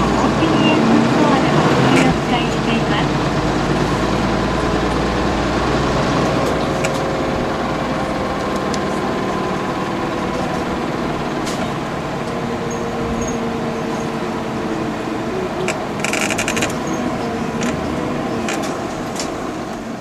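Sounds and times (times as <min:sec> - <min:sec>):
bus engine whining: 0:00.0 - 0:20.0.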